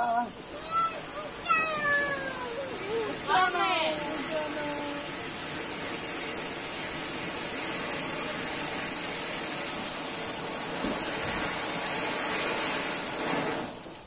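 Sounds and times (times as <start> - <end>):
firework fountain hissing: 0.0 - 14.0.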